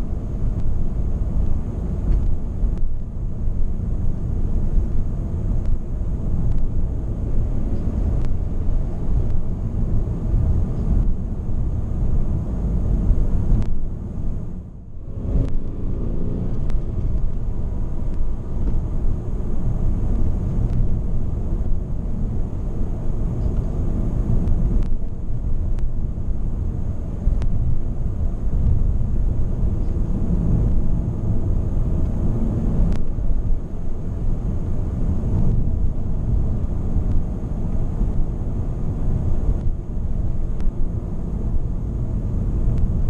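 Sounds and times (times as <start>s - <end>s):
road and tyre rumble in car: 0.0s - 43.0s.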